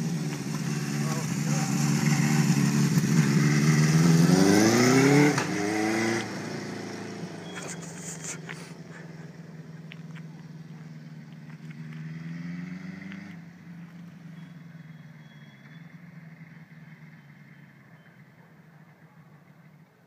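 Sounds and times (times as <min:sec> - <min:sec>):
motorcycle engine revving: 0:00.0 - 0:18.4.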